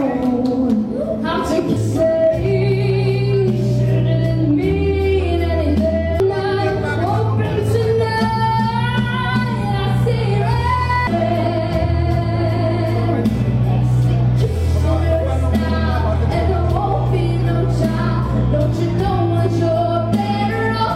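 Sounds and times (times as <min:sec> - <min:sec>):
woman singing into microphone: 0:00.0 - 0:13.5, 0:14.4 - 0:20.9
instrumental accompaniment with bass: 0:00.0 - 0:20.9.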